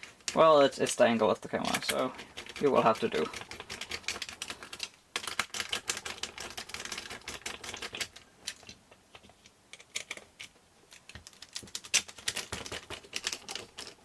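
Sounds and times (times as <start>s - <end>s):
plastic parts and screws clicking: 0.0s - 14.0s.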